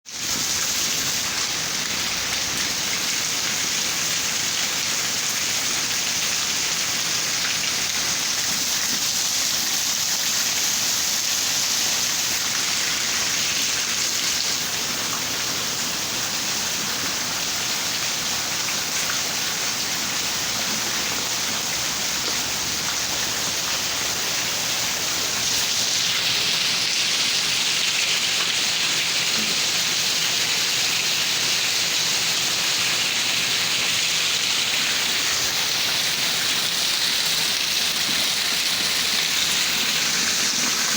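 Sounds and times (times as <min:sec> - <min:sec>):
steady rain falling: 0:00.1 - 0:40.9.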